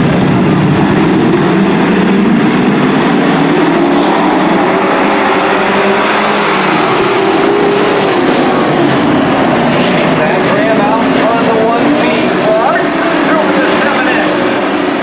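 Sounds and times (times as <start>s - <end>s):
race truck engines at high revs: 0.0s - 15.0s.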